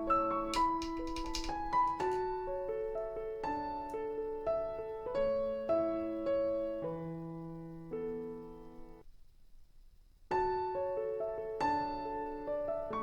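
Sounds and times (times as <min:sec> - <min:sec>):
slow piano music: 0:00.0 - 0:09.0, 0:10.4 - 0:13.0.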